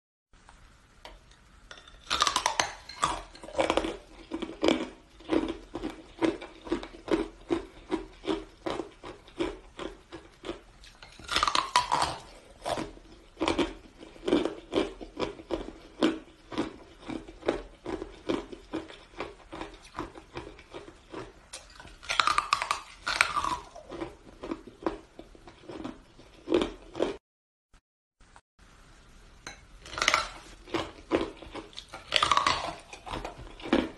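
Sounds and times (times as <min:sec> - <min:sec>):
ice crunching chews: 0:02.0 - 0:27.2, 0:29.8 - 0:33.9.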